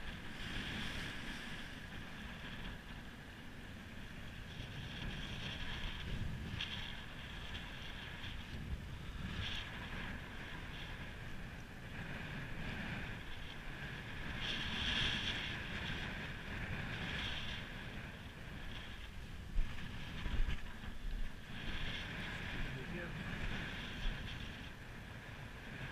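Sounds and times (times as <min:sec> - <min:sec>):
sea washing against wall: 0:00.0 - 0:25.9
wind buffeting microphone: 0:00.0 - 0:25.9.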